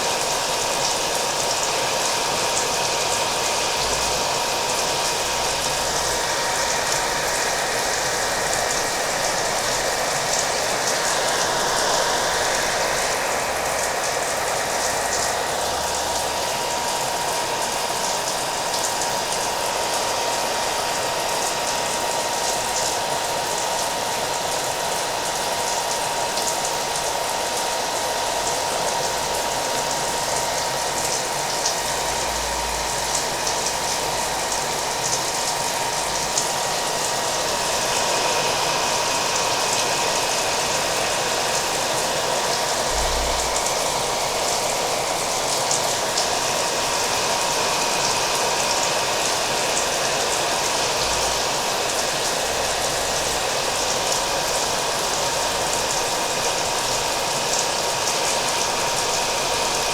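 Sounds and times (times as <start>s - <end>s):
hair dryer whining: 0.0s - 59.9s.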